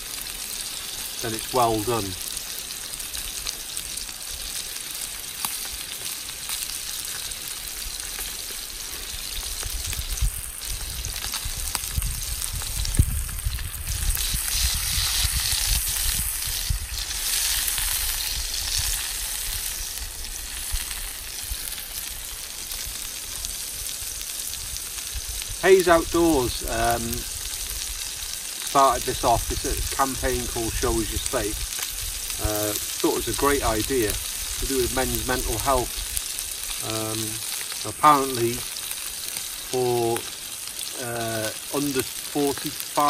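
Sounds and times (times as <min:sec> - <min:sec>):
steak sizzling in a frying pan: 0:00.0 - 0:43.0.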